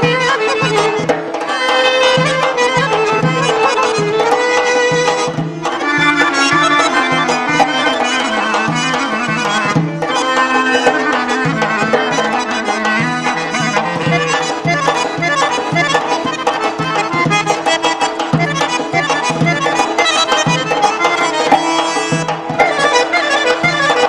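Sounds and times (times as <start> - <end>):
button accordion dance tune: 0.0 - 24.0.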